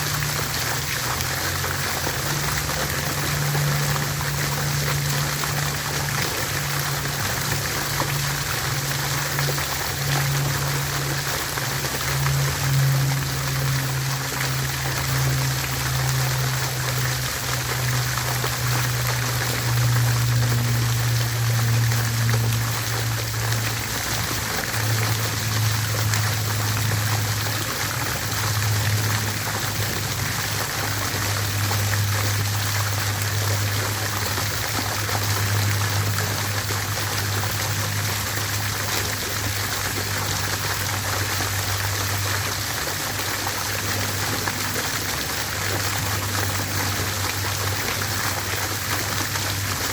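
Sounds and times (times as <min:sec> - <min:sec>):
fountain water splashing: 0:00.0 - 0:49.9
low hum: 0:00.0 - 0:49.9.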